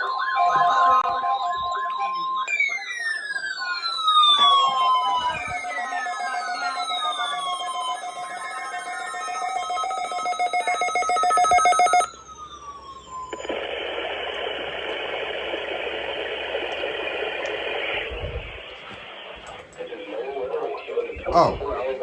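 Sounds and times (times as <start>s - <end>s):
emergency alert test tones: 0.0s - 19.6s.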